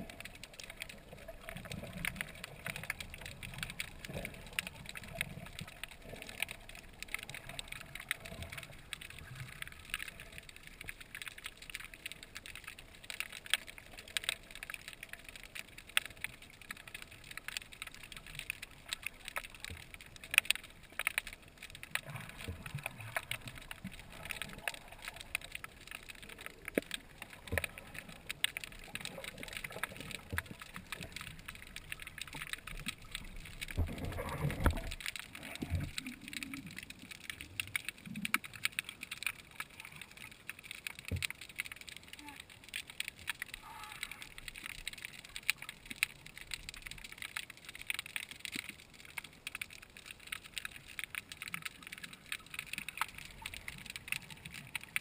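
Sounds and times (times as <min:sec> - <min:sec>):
muffled surges of water: 0:00.0 - 0:55.0
underwater crackle of clicks: 0:00.0 - 0:55.0.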